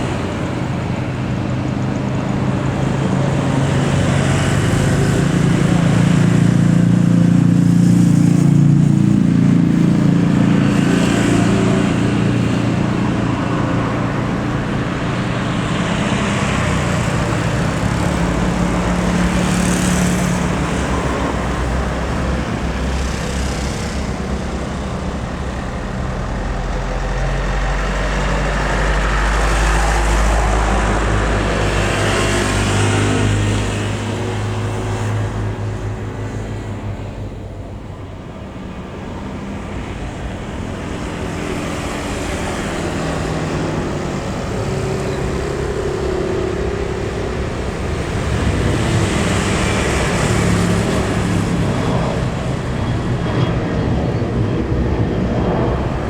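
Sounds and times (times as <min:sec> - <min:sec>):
jet engine noise: 0:00.0 - 0:56.0.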